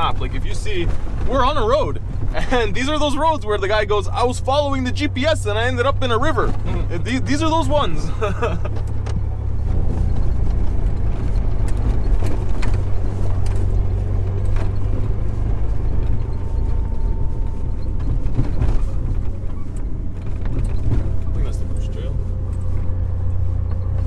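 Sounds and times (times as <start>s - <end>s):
car engine and road rumble: 0.0s - 24.0s
knocks and rattles over bumps: 0.0s - 24.0s.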